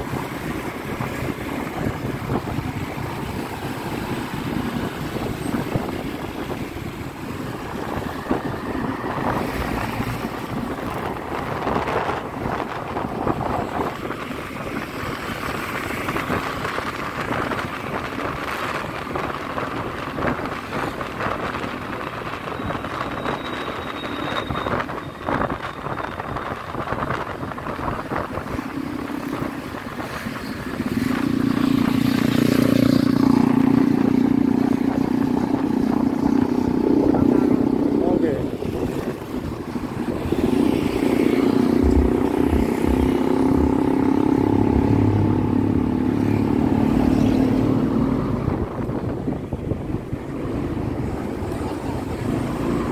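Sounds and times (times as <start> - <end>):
wind on microphone: 0.0 - 52.9.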